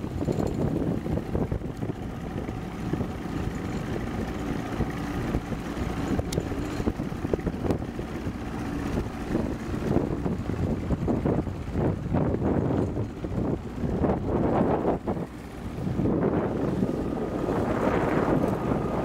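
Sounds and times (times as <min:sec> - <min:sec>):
outboard motor running: 0:00.0 - 0:19.0
wind rumbling on microphone: 0:00.0 - 0:19.0.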